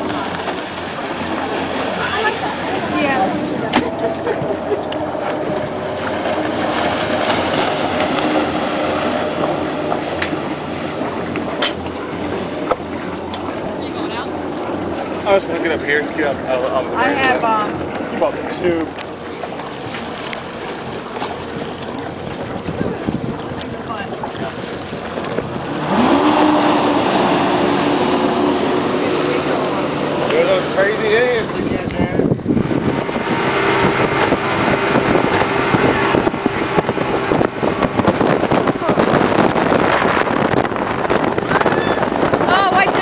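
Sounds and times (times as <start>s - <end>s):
motorboat engine running: 0.0s - 43.0s
wake splashing: 0.0s - 43.0s
water noise: 0.0s - 43.0s
wind: 0.0s - 43.0s.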